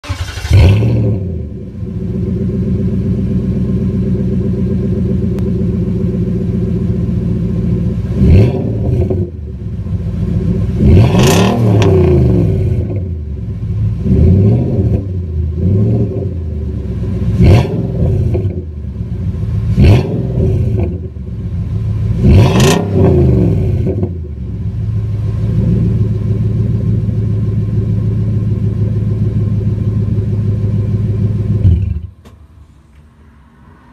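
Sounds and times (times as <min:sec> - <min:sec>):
truck engine idling and revving: 0:00.0 - 0:33.9.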